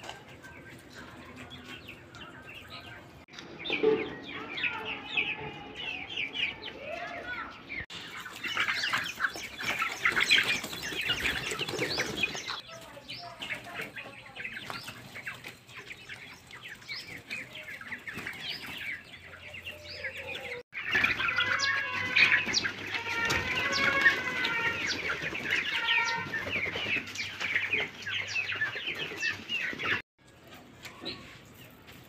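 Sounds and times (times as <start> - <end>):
chickens clucking and chirping: 0.0 - 32.0.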